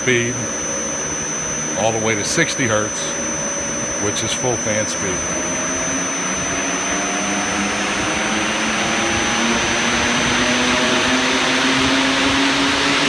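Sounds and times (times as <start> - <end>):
fans rushing air with rising hum: 0.0 - 13.0.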